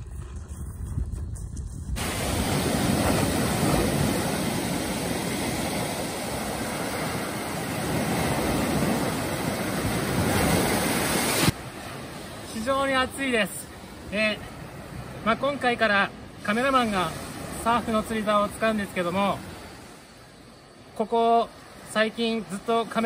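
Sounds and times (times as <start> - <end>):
waves washing up gravel beach: 0.0 - 20.0.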